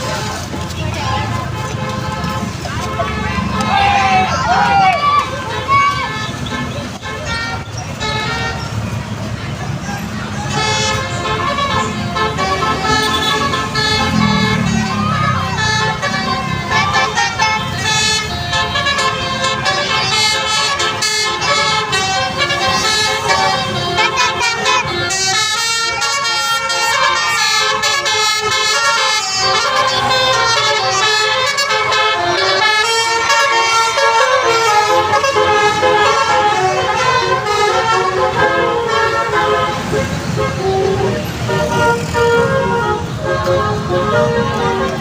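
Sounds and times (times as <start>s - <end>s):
multi-tone musical air horn: 1.5s - 9.0s, 10.4s - 45.0s.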